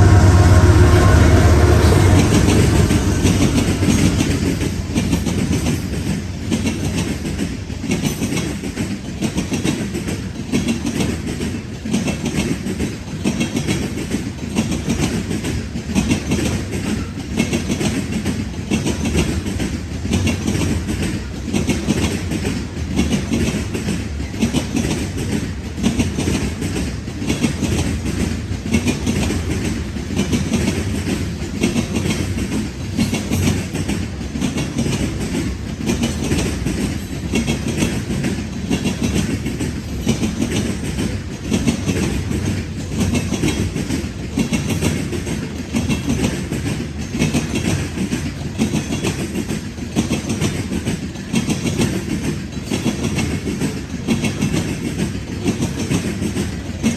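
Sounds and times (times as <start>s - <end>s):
train rumble: 0.0s - 56.9s
train wheels clicking over rail joints: 0.0s - 56.9s.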